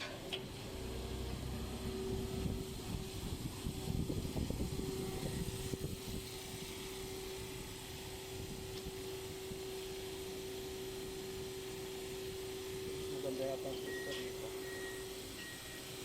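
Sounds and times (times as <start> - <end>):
low rumbling: 0.0 - 13.3
motor humming: 0.0 - 16.0.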